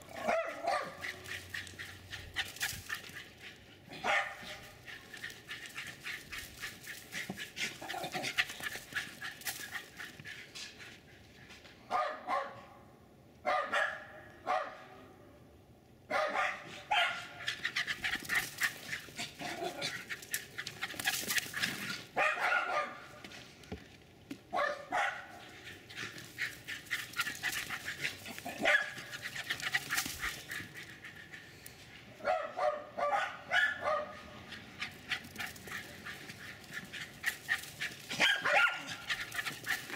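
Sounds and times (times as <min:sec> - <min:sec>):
dogs barking: 0:00.0 - 0:10.2, 0:11.9 - 0:12.7, 0:13.5 - 0:14.9, 0:16.1 - 0:23.2, 0:24.6 - 0:31.2, 0:32.2 - 0:39.9.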